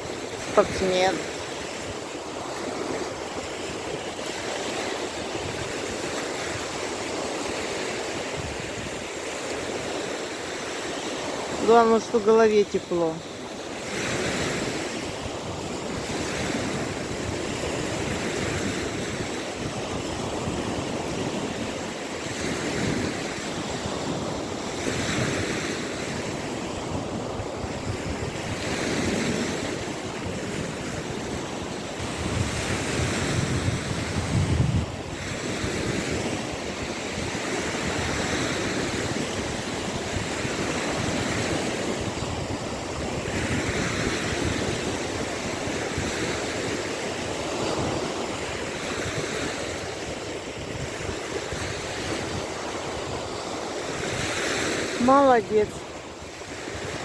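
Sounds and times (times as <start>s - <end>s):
small waves washing ashore: 0.0s - 57.0s
wind buffeting microphone: 0.0s - 57.0s.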